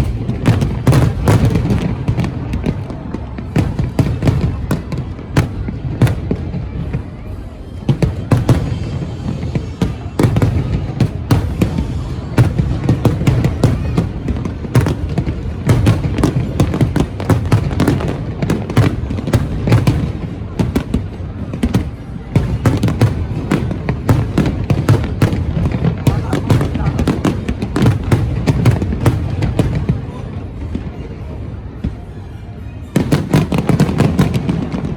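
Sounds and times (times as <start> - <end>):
fireworks crackling: 0.0 - 31.2, 33.0 - 34.9
fireworks bangs and booms: 0.0 - 34.9.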